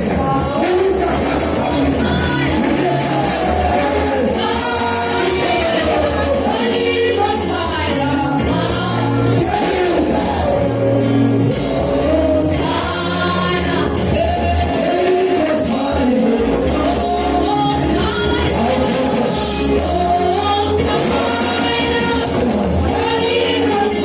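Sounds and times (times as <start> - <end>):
band with bass line: 0.0 - 24.0
choir singing gospel: 0.0 - 24.0.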